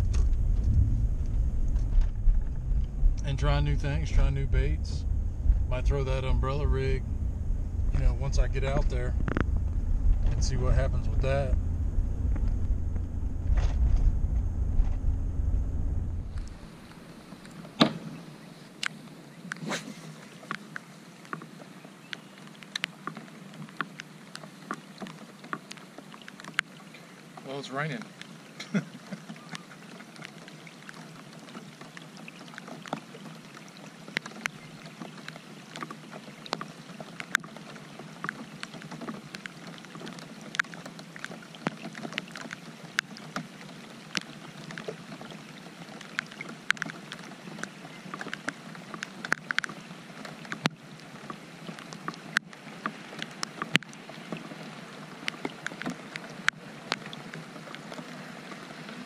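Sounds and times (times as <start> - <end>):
rain hissing: 0.0 - 59.0
raindrops ticking on kayak: 0.0 - 59.0.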